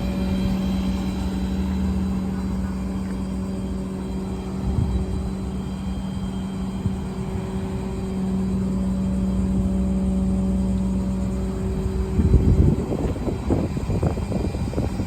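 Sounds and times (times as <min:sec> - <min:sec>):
uneven rumbling: 0:00.0 - 0:15.0
vehicle engine humming: 0:00.0 - 0:15.0.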